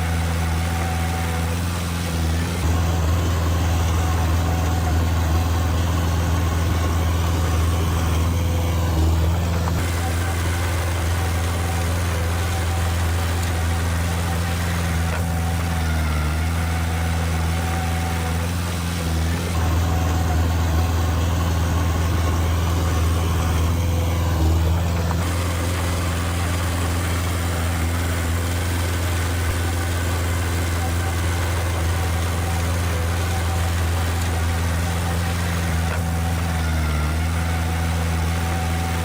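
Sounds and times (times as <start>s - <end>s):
diesel engine humming: 0.0s - 39.0s.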